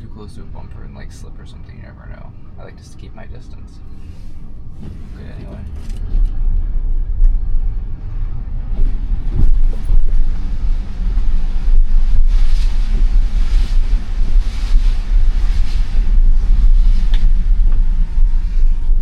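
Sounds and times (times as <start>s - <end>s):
road and tyre rumble in car: 0.0s - 19.0s.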